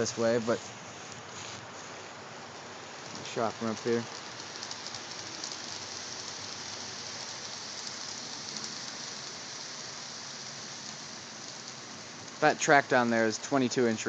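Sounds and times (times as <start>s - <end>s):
model trains rolling on track: 0.0s - 0.5s, 2.4s - 14.0s
faint ticks: 2.6s - 14.0s.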